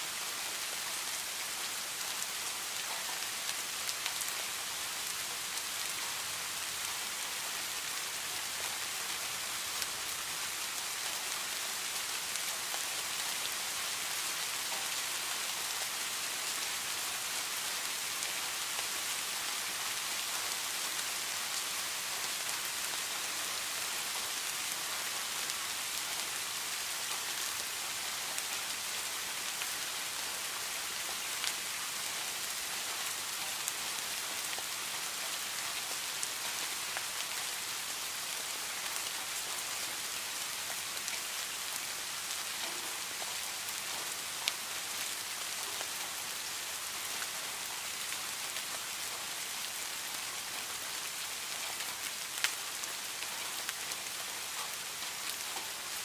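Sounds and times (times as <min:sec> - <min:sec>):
rain on foliage: 0:00.0 - 0:56.0.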